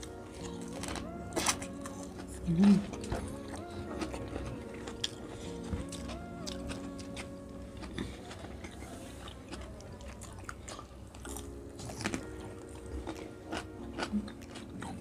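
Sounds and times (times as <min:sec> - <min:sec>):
crunching and chewing food: 0:00.0 - 0:15.0.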